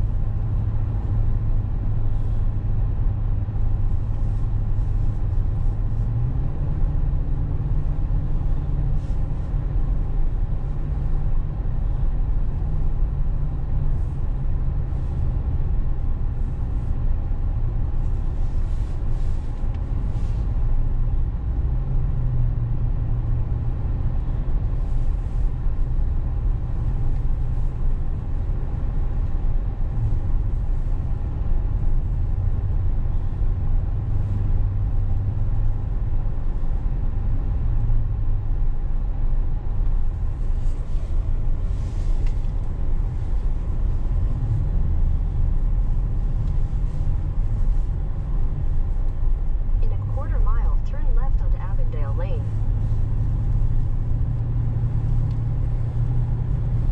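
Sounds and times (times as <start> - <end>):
car engine and tyre rumble: 0.0 - 56.9.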